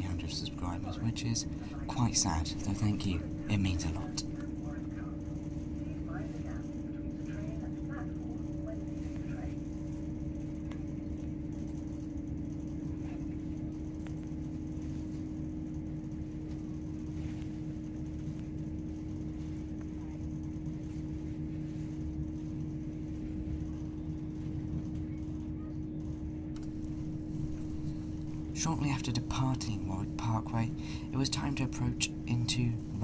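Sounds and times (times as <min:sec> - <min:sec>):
constant droning tone: 0:00.0 - 0:33.0.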